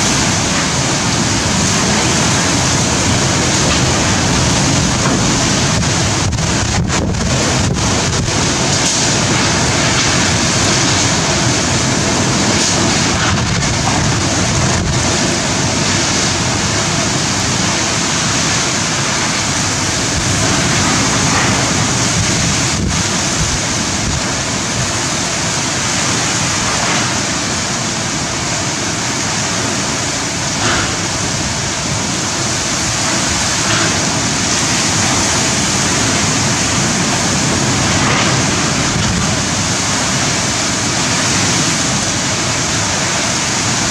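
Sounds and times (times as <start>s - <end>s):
wind-driven heavy rain: 0.0s - 43.9s.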